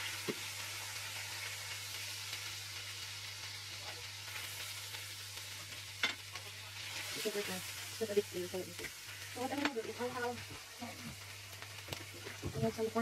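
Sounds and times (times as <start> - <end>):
steaks sizzling in a skillet: 0.0 - 13.0.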